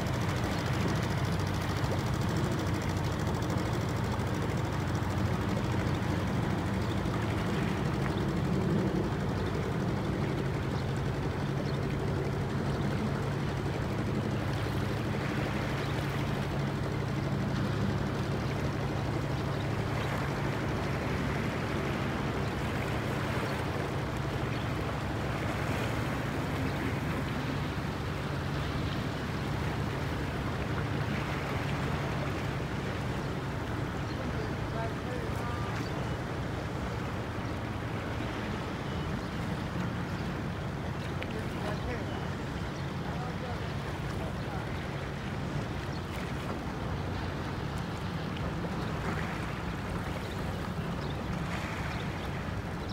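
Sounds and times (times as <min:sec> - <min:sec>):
boat engine humming: 0:00.0 - 0:52.9
water splashing along hull: 0:00.0 - 0:52.9.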